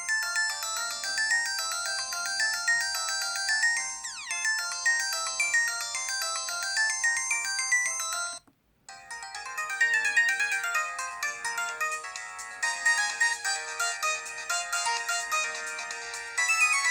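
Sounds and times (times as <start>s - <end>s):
electronic ringtone melody: 0.0s - 16.9s.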